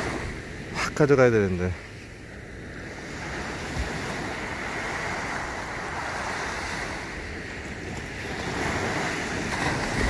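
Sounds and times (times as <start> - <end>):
small waves breaking on sand: 0.0 - 10.0
wind rumbling on microphone: 0.0 - 10.0.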